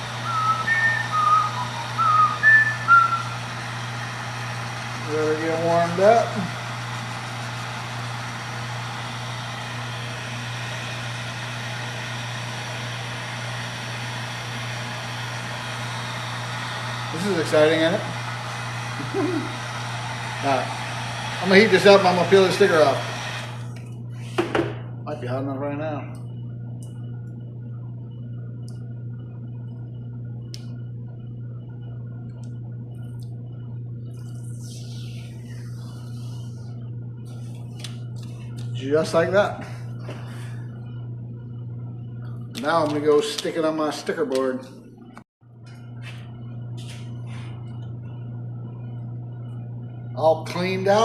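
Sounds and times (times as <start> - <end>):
heat gun running: 0.0 - 51.0.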